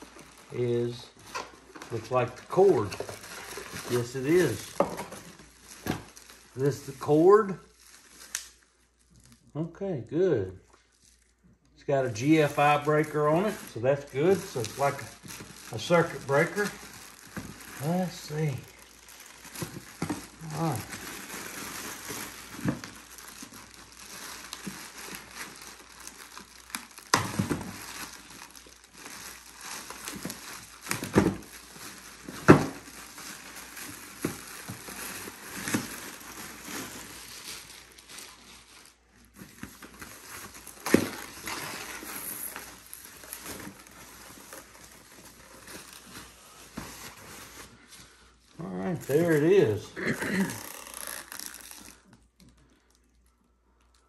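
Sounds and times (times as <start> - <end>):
plastic packaging crinkling: 0.0 - 9.5, 10.6 - 54.0.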